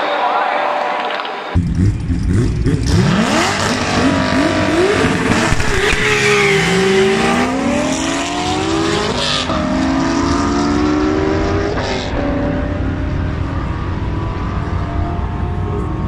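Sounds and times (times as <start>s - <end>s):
race car engines accelerating: 1.5s - 16.0s.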